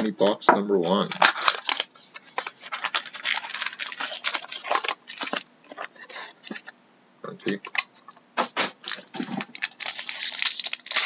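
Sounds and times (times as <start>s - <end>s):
foil packs crinkling and rustling: 0.8s - 6.7s, 7.4s - 11.0s.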